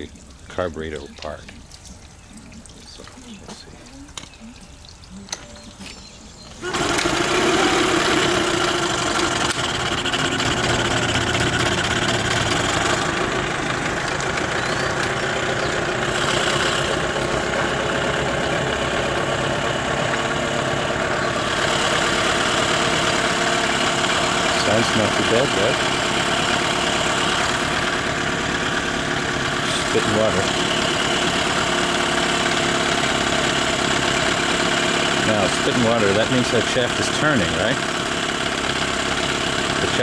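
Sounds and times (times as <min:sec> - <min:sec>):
outboard motor starting and running: 0:00.0 - 0:40.0.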